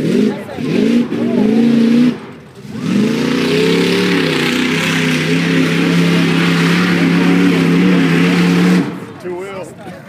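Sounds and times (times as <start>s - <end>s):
engine revving: 0.0s - 9.2s.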